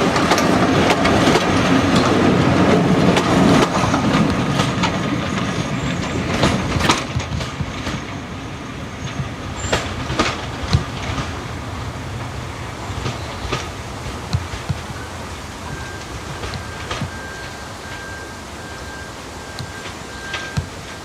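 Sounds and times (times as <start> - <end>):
train carriages rolling past: 0.0 - 21.0
wheels clicking over rail joints: 0.0 - 21.0.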